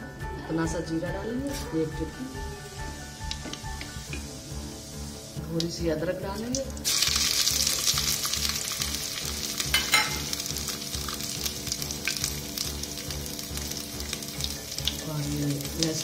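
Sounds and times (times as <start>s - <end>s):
spices sizzling in hot oil: 1.4s - 16.0s.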